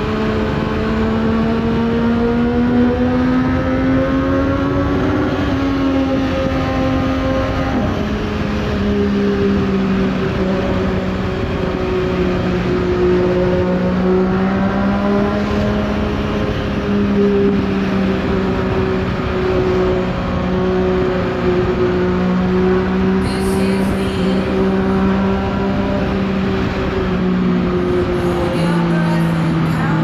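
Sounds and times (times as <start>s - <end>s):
wind noise: 0.0s - 30.0s.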